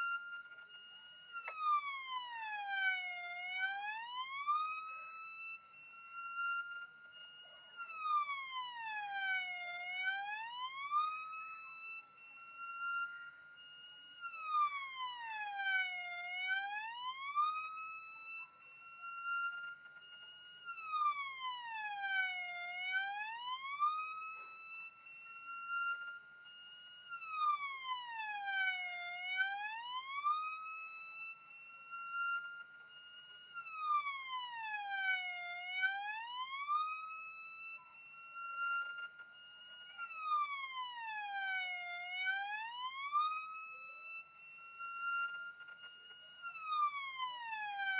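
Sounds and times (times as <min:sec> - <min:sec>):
fire engine siren wailing: 0:01.2 - 0:47.9.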